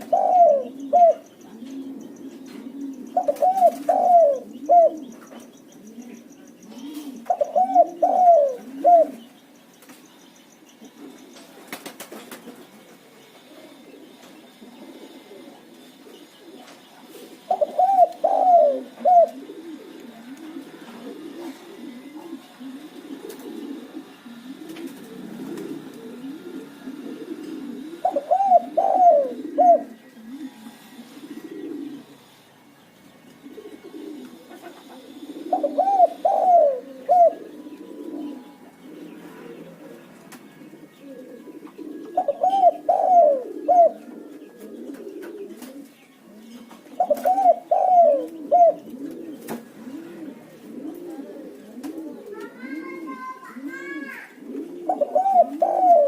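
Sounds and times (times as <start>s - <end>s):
doves cooing loudly: 0.0s - 9.5s, 10.8s - 32.5s, 33.3s - 56.0s
low cooing of doves: 0.0s - 56.0s.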